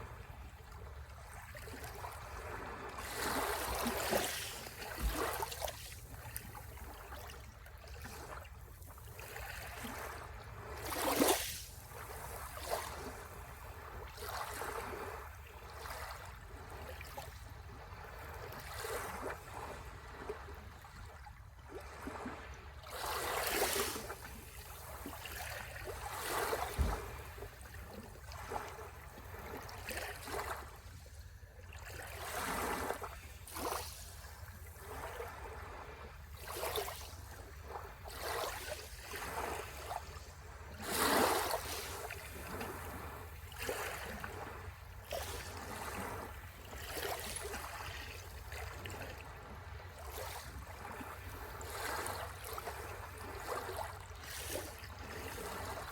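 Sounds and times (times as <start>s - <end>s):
small sea waves washing ashore: 0.0s - 55.9s.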